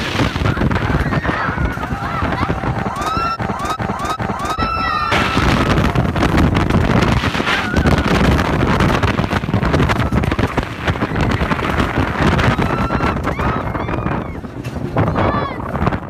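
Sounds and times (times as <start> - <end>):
roller coaster rumbling on track: 0.0 - 16.0
wind rushing over microphone: 0.0 - 16.0.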